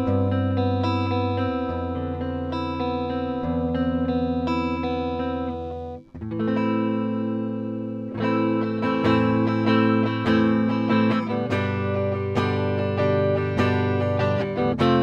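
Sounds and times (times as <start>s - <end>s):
electric guitar chords ringing: 0.0s - 15.0s.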